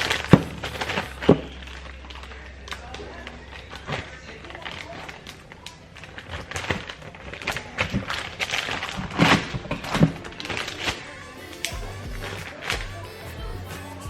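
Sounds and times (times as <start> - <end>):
plastic freezer bags crinkling: 0.0 - 12.8.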